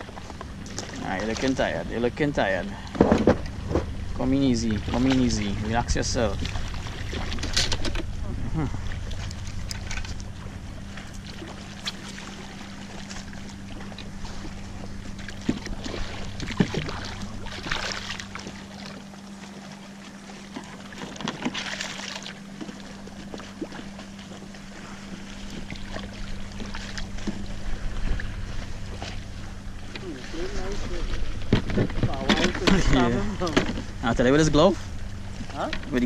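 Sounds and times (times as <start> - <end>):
low steady hum: 0.0 - 36.0
water lapping against kayak hull: 0.0 - 36.0.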